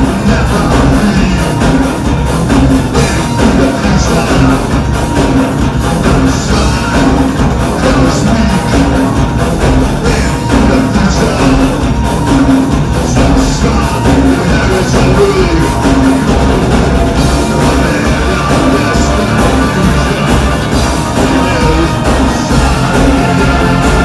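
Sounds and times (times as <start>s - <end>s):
metal band playing live: 0.0s - 24.0s.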